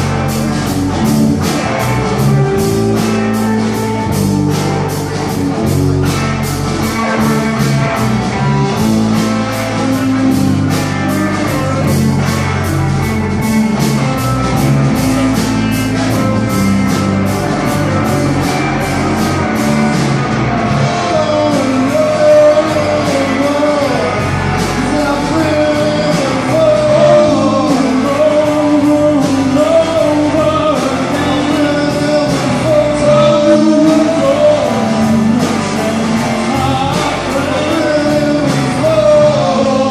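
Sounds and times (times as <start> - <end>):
person singing: 0.0 - 39.9
rock blues band playing: 0.0 - 39.9.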